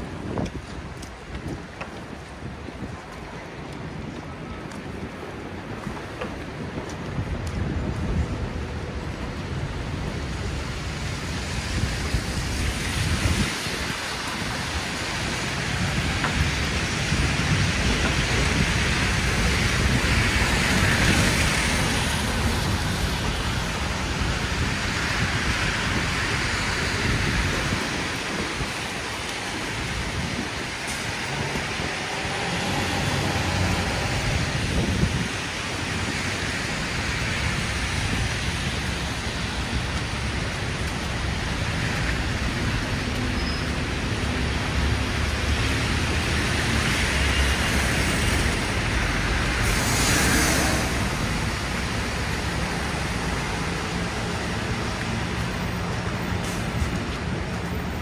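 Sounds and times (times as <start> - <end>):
falling wet snow: 0.0 - 58.0
tyres on slushy pavement: 0.0 - 58.0.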